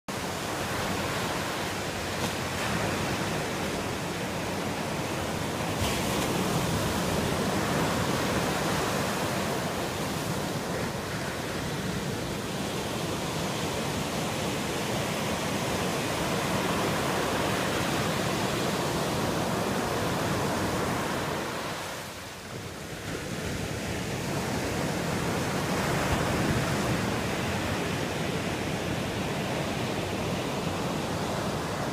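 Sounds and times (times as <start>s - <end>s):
ocean surf breaking on rocky beach: 0.1s - 31.9s.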